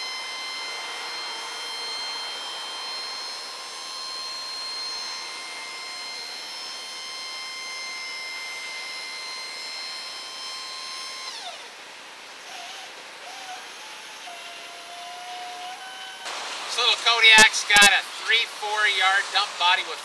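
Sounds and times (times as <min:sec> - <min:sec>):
hydraulic pump whining: 0:00.0 - 0:20.0.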